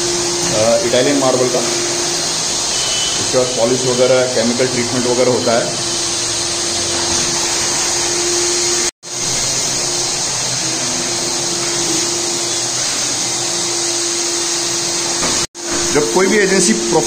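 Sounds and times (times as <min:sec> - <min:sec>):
floor polishing machine grinding: 0:00.0 - 0:17.0.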